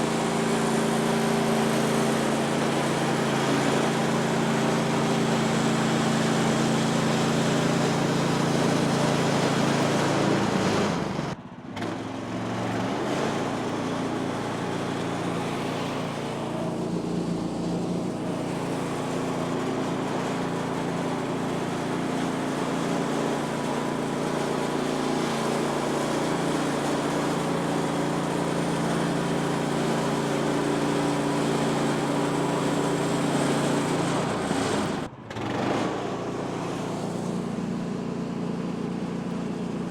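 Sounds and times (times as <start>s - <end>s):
sawmill engine droning: 0.0s - 39.9s.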